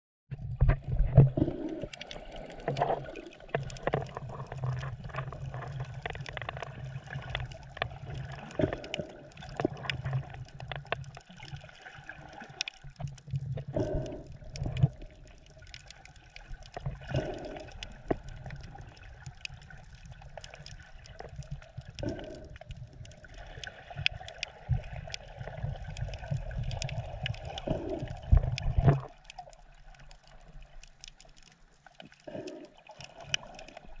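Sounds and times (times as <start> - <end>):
underwater clicks and pops: 0.3 - 11.7, 12.4 - 34.0
underwater water wash: 0.3 - 34.0.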